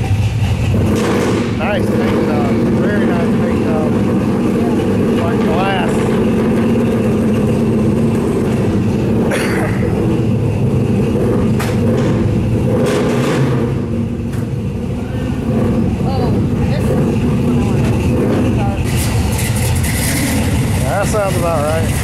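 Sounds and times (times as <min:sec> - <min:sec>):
car engines idling: 0:00.0 - 0:22.0.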